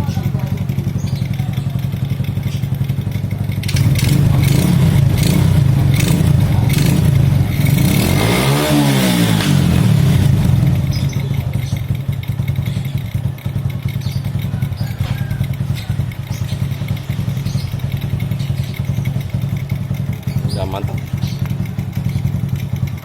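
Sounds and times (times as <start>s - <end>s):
motorcycle engine running and revving: 0.0s - 23.0s.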